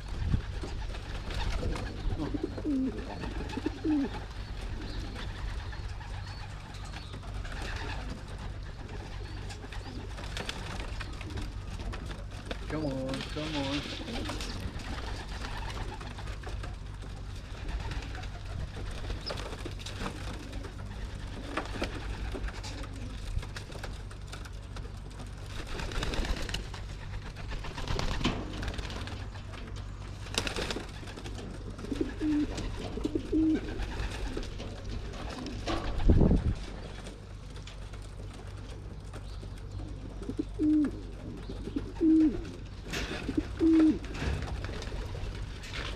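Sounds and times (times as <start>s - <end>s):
pigeons cooing: 0.0s - 45.9s
steady low rumble: 0.0s - 45.9s.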